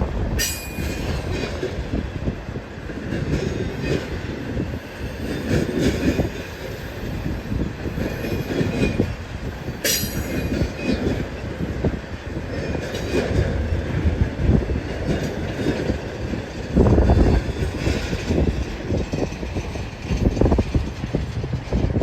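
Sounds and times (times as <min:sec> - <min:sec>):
freight train rumbling past: 0:00.0 - 0:22.0
wind buffeting microphone: 0:00.0 - 0:22.0.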